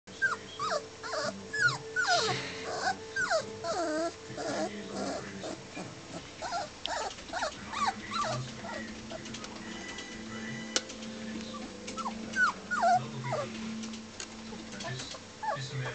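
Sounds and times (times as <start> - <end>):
puppies whining: 0.1 - 15.9.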